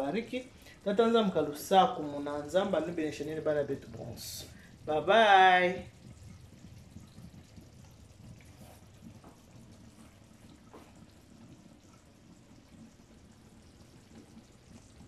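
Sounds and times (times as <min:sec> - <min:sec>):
pots bubbling: 0:00.0 - 0:15.0.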